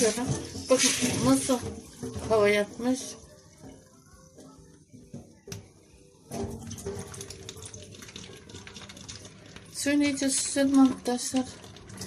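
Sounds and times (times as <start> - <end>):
water pouring into a steel sink: 0.0 - 4.7, 6.2 - 12.0.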